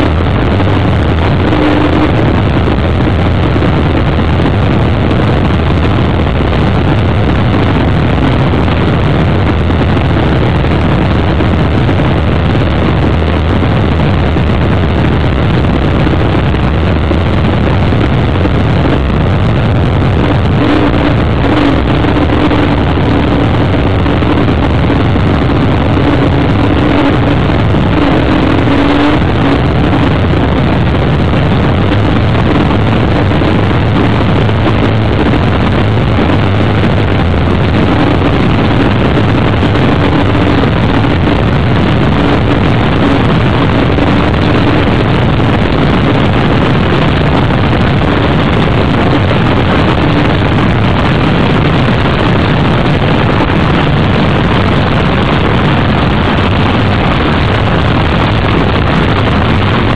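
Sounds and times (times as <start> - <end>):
wind and water rushing: 0.0 - 59.9.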